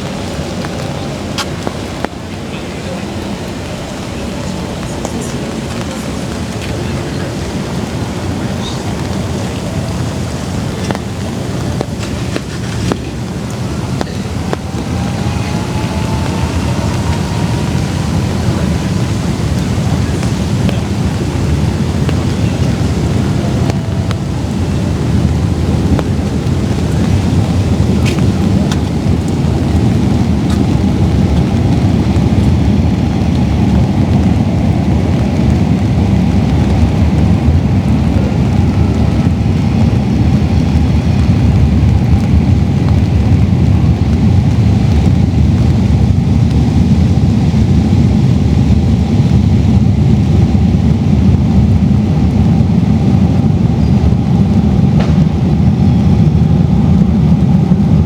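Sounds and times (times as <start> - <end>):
low rumble: 0.0 - 58.0
steady rain: 0.0 - 58.0.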